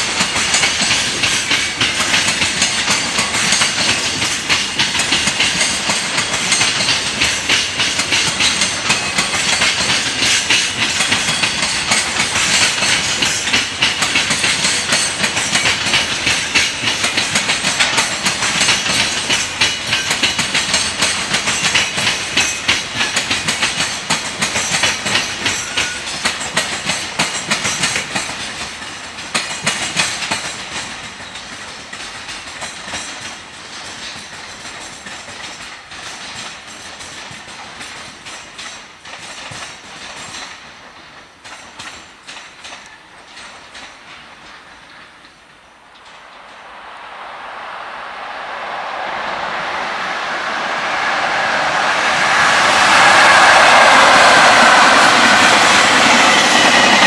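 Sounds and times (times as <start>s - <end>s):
train wheels clattering over rail joints: 0.0s - 46.2s.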